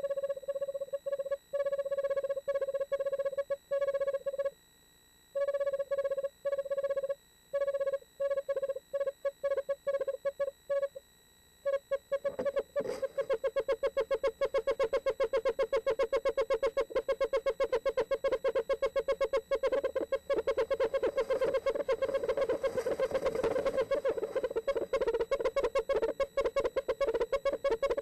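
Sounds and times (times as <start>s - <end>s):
owl trill call: 0.0s - 4.6s, 5.4s - 11.0s, 11.6s - 28.0s.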